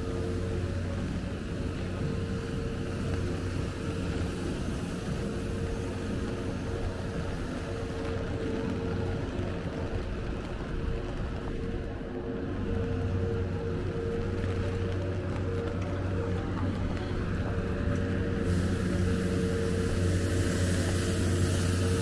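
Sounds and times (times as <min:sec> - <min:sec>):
city street traffic hum: 0:00.0 - 0:22.0.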